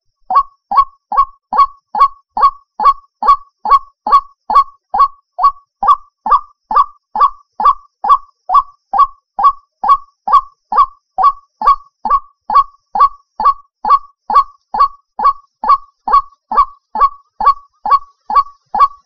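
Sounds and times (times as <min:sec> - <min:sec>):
waterhen honking call: 0:00.0 - 0:19.0.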